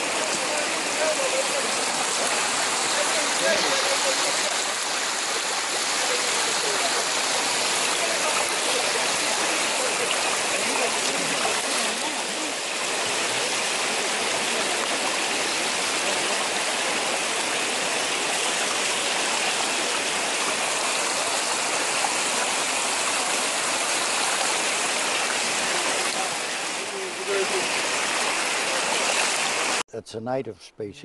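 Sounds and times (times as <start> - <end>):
stream water running over stones: 0.0 - 29.8.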